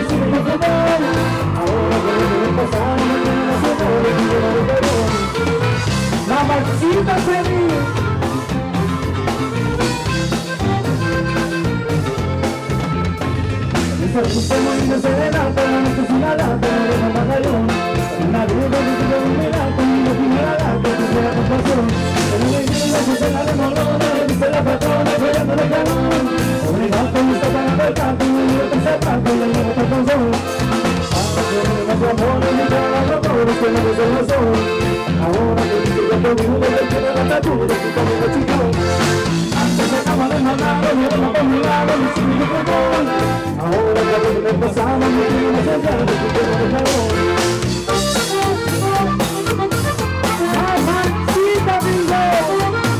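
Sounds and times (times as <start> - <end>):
electric bass: 0.0 - 52.9
electric guitar: 0.0 - 52.9
live band playing upbeat song: 0.0 - 52.9.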